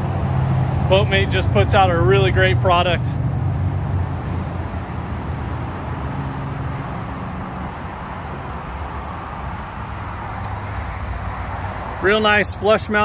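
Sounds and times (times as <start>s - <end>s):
rumble of motor traffic: 0.0s - 13.0s
vehicle engine: 0.0s - 13.0s.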